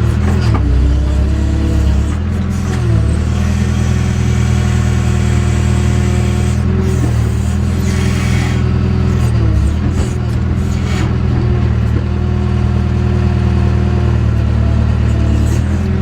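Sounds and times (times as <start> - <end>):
diesel engine of digger running: 0.0 - 16.0.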